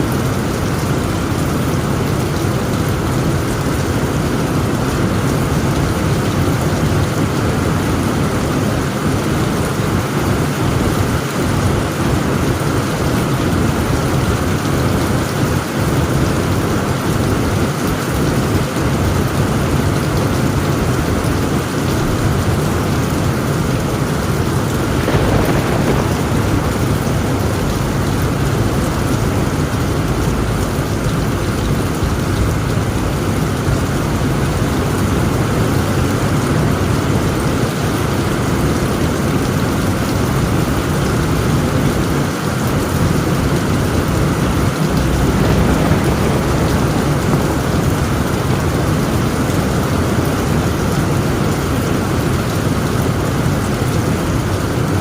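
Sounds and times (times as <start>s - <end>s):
heavy rain on a tent roof: 0.0s - 55.0s
rumble of thunder: 4.1s - 52.4s.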